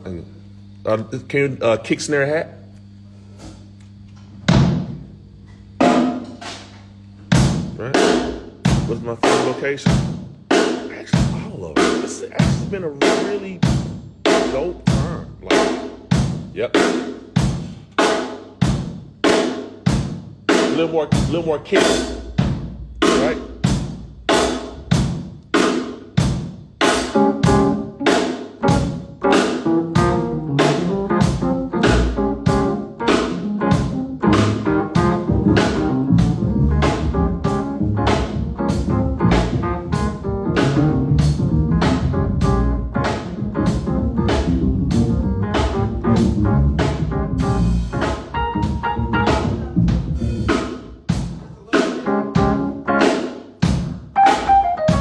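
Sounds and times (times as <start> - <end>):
bass: 0.0 - 13.0, 13.6 - 17.6, 20.5 - 25.3, 28.6 - 51.6
keyboard chords: 0.0 - 55.0
drum kit beat: 5.8 - 55.0.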